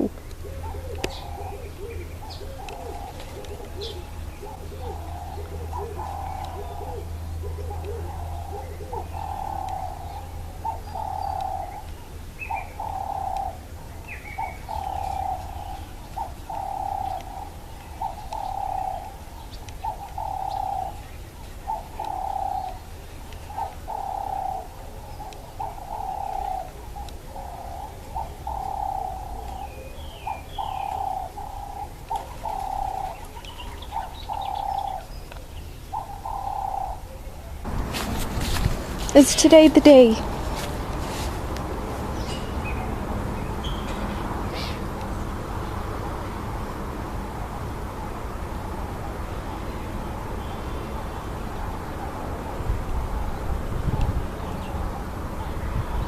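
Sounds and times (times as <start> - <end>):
dove cooing: 0.0 - 46.3.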